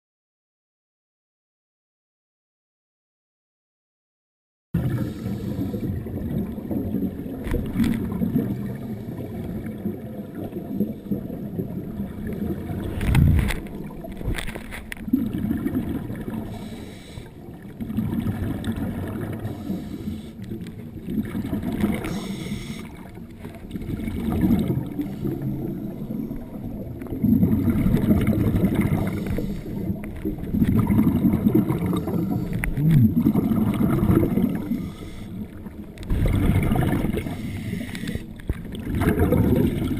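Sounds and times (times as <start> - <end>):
underwater exhaled bubbles: 4.8 - 39.9.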